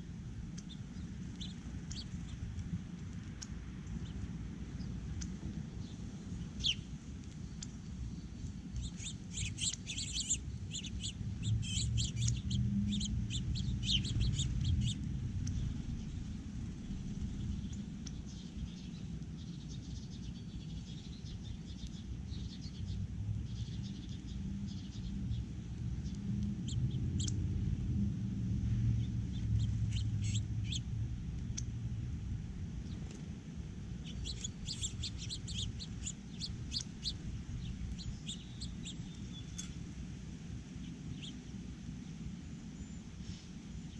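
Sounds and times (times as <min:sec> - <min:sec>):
songbirds chirping: 0:00.0 - 0:43.9
steady low rumble: 0:00.0 - 0:43.9.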